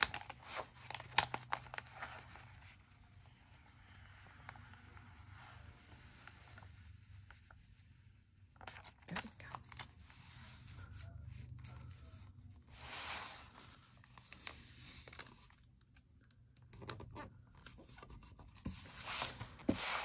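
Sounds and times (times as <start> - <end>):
paper rustling and scraping: 0.0 - 15.7, 16.8 - 20.0.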